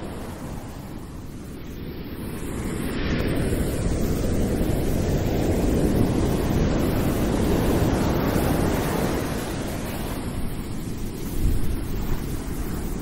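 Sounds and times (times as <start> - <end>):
ocean waves washing on beach: 0.0 - 13.0.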